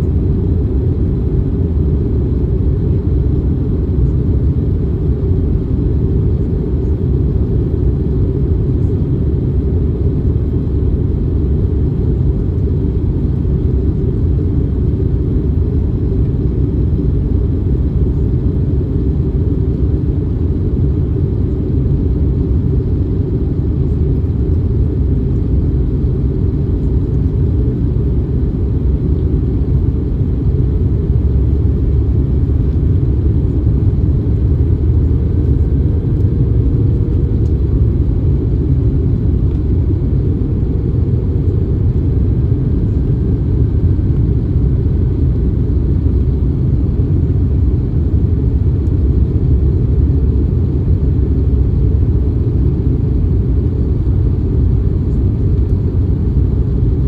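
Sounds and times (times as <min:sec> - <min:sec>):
aircraft cabin rumble: 0:00.0 - 0:57.0.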